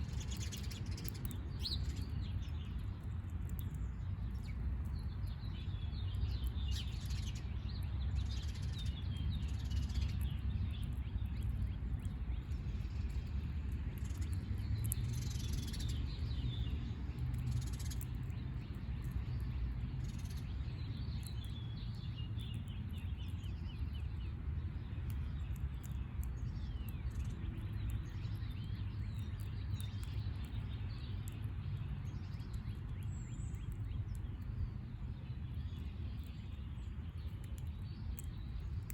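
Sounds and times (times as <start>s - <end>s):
low steady rumble: 0.0s - 38.9s
small birds chirping: 0.0s - 38.9s.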